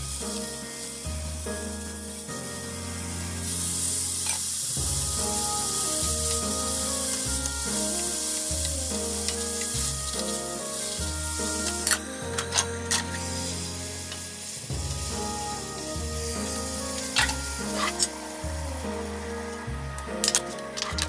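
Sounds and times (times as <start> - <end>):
background music: 0.0 - 21.0
meat sizzling in a frying pan: 0.0 - 21.0.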